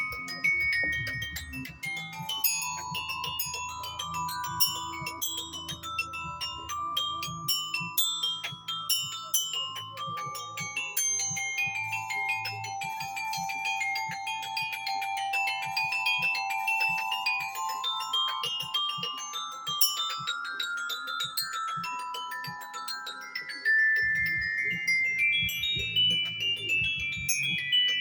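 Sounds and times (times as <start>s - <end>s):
tuned mallet percussion: 0.0s - 28.0s.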